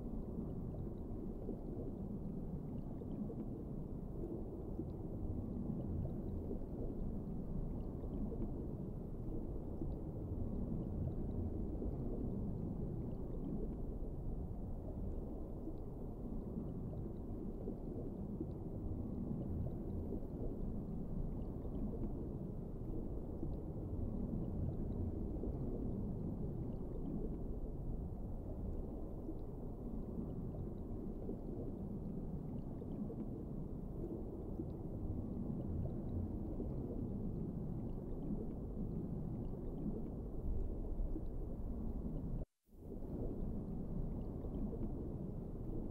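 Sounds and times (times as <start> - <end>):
muffled rumble of moving water: 0.0 - 45.9.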